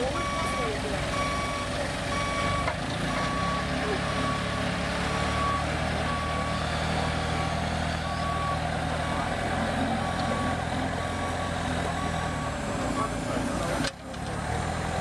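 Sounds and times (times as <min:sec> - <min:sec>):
reversing alarm beeping: 0:00.0 - 0:04.6, 0:05.2 - 0:13.2
diesel engine running: 0:00.0 - 0:15.0.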